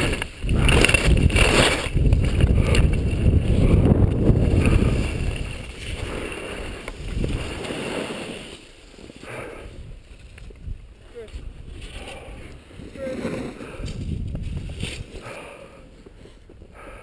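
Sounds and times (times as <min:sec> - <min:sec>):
skis sliding on snow: 0:00.0 - 0:10.4, 0:11.6 - 0:16.6
wind rushing over camera: 0:00.0 - 0:17.0.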